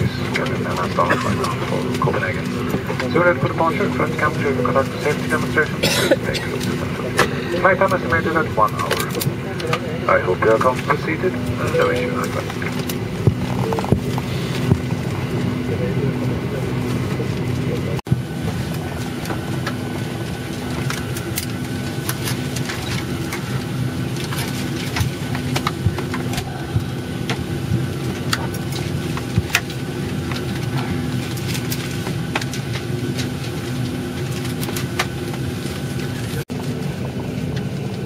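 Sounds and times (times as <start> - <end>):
airliner cabin hum: 0.0 - 38.0.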